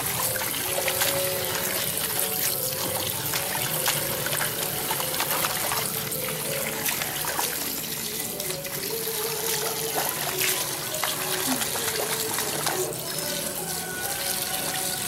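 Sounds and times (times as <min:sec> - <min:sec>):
dog splashing water: 0:00.0 - 0:15.0
tap water running into basin: 0:00.0 - 0:15.0.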